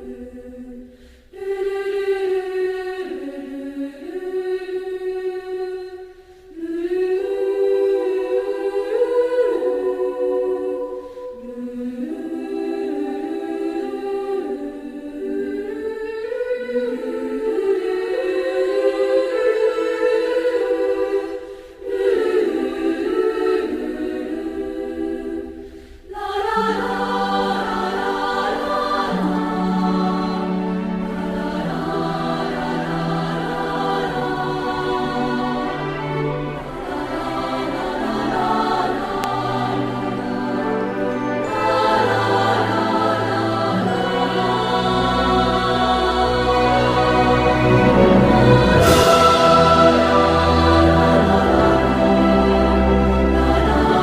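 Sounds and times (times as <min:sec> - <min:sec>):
choir singing slow chords: 0:00.0 - 0:54.0.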